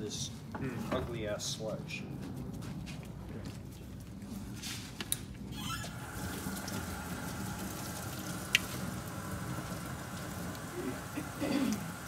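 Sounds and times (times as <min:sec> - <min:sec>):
workshop whir and hiss: 0:00.0 - 0:12.0.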